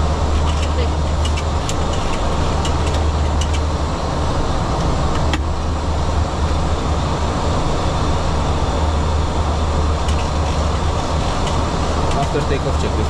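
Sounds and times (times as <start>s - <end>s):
airflow over aircraft nose: 0.0s - 13.0s
jet engines in cockpit: 0.0s - 13.0s.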